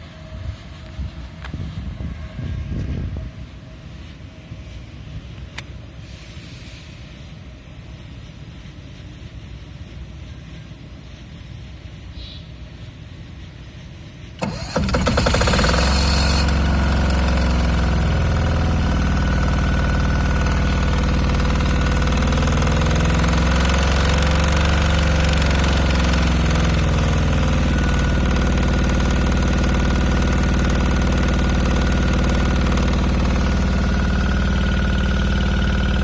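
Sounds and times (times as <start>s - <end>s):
diesel generator engine running: 5.4s - 36.0s.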